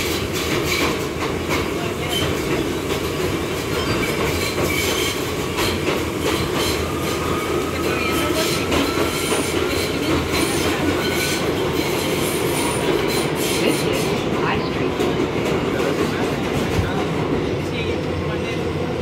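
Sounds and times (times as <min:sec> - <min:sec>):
subway wheels rumbling on rails: 0:00.0 - 0:19.0.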